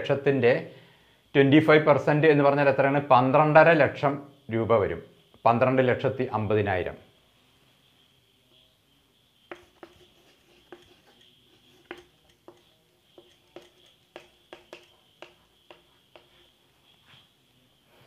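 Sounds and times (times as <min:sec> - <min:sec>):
low steady hiss: 0:00.0 - 0:18.0.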